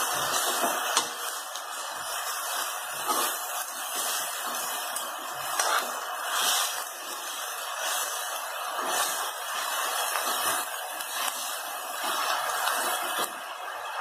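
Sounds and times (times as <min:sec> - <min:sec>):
leaves sizzling in a wok: 0:00.0 - 0:14.0
spatula stirring in a wok: 0:00.0 - 0:14.0.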